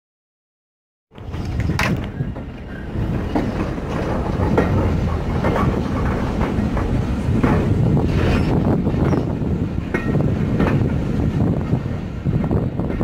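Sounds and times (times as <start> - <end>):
railway carriage wheels rumbling: 1.1 - 13.0
wheels clicking over rails: 1.1 - 13.0.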